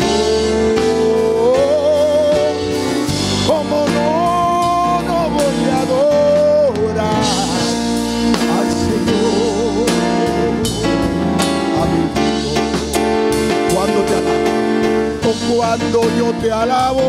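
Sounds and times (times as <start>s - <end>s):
drum kit: 0.0s - 17.0s
electric keyboard chords: 0.0s - 17.0s
man singing into a microphone: 0.0s - 17.0s.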